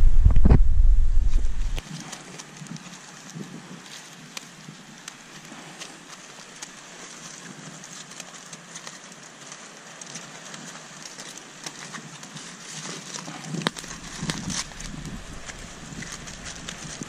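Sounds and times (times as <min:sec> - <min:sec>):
aluminium foil crinkling: 0:01.8 - 0:17.0.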